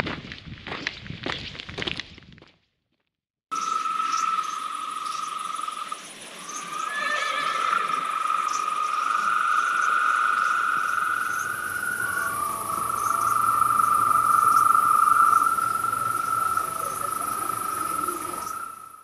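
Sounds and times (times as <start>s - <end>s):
crickets trilling: 3.5s - 19.0s
high insect buzz: 3.5s - 19.0s.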